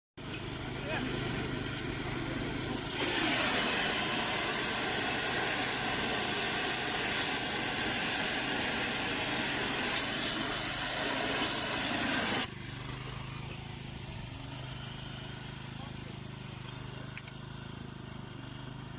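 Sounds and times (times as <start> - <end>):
rail maintenance equipment hissing: 0.2 - 17.2.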